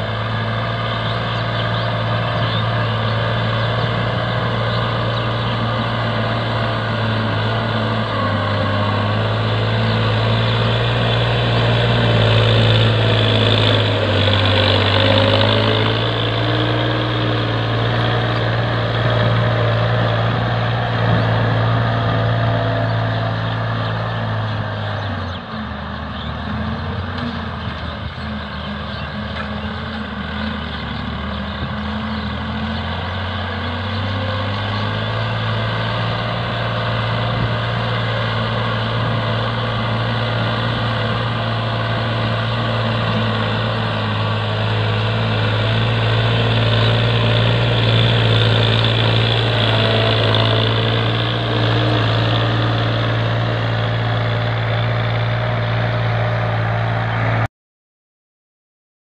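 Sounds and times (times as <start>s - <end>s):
tractor diesel engine running: 0.0s - 57.5s.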